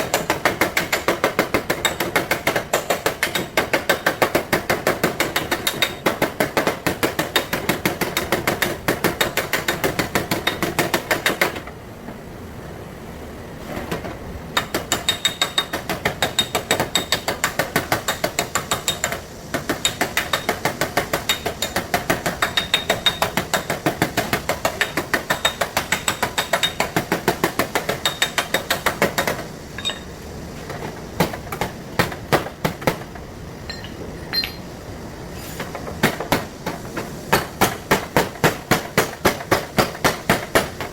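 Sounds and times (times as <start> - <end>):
hammer tapping on sheet steel: 0.0 - 11.7, 13.9 - 30.1, 30.7 - 33.1, 35.6 - 40.9.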